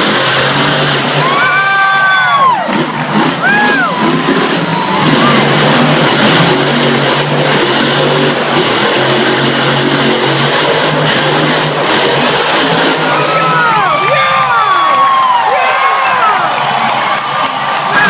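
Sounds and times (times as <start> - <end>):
crowd shouting and cheering: 0.0 - 18.0
monster truck engine revving: 0.0 - 18.0.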